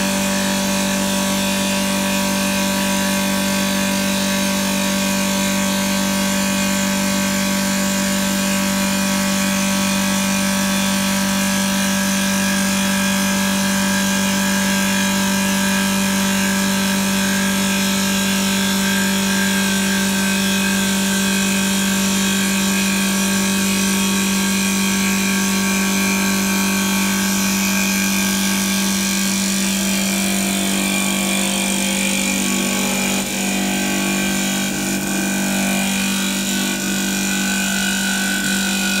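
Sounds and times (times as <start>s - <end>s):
wood lathe humming: 0.0s - 39.0s.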